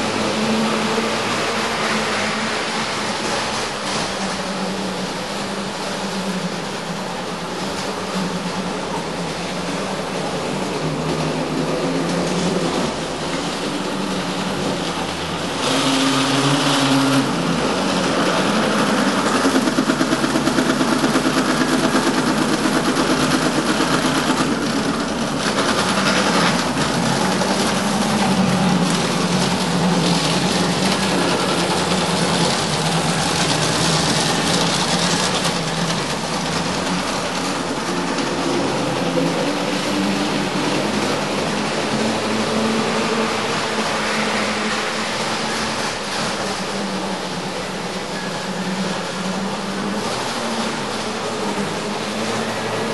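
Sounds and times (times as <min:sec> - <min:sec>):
model tram motor whirring: 0:00.0 - 0:52.9
wheels running on rails: 0:00.0 - 0:52.9.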